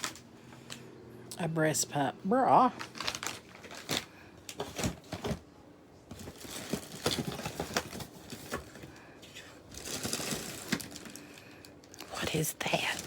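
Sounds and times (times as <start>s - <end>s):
plastic packaging rustling: 0.0s - 0.8s, 2.6s - 5.4s, 6.1s - 13.0s.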